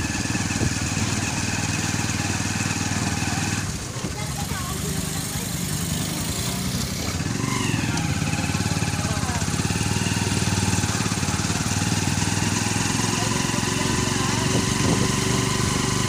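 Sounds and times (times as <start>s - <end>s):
small motorcycle engine chugging: 0.0s - 16.0s.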